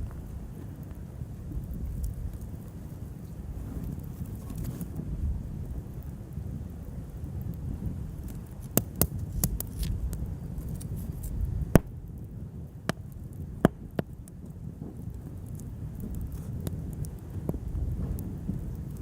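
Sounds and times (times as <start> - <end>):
steady low rumble: 0.0 - 19.0
wood fire crackling: 0.0 - 19.0.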